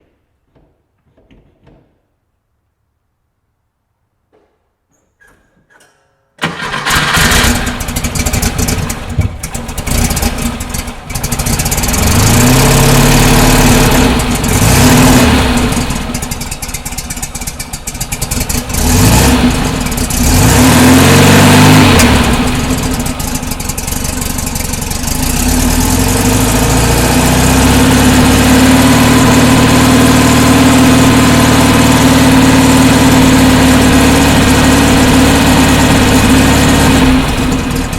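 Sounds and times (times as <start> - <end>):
car engine starting and revving: 6.4 - 37.9.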